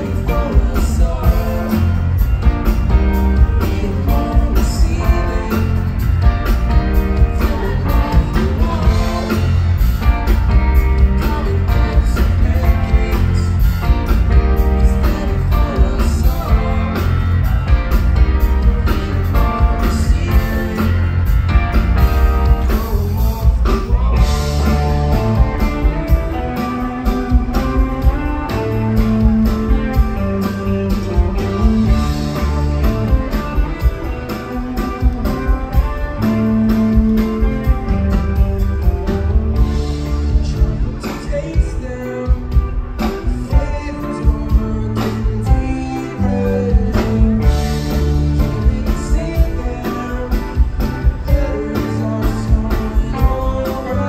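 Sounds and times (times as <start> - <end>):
bass guitar: 0.0 - 54.0
drums keeping a steady beat: 0.0 - 54.0
rock band playing live: 0.0 - 54.0.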